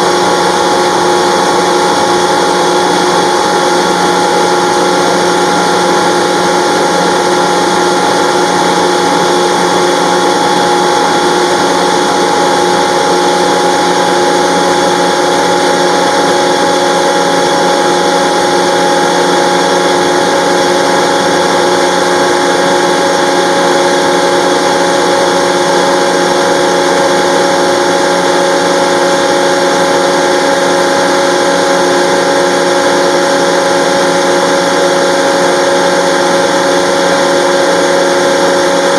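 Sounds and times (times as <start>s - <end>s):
electric air compressor running: 0.0s - 38.9s.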